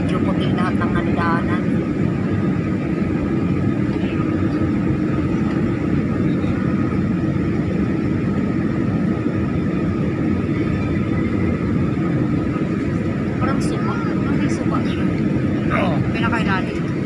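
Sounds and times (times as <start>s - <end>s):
airliner cabin engine rumble: 0.0s - 17.0s
faint steady whine: 0.0s - 17.0s.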